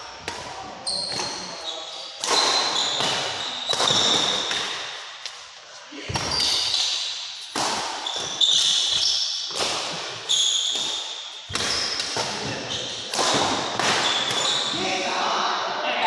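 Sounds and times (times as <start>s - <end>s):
shoes squeaking on court floor: 0.8s - 5.4s, 6.0s - 13.1s, 13.7s - 14.9s.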